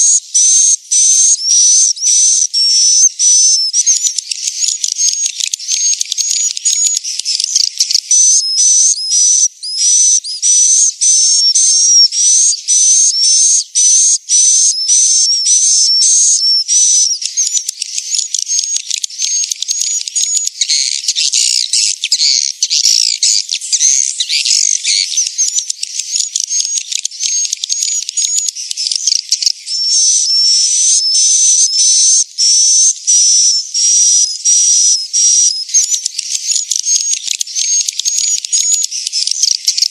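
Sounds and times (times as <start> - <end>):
swiftlets twittering chirps: 0.0 - 39.9.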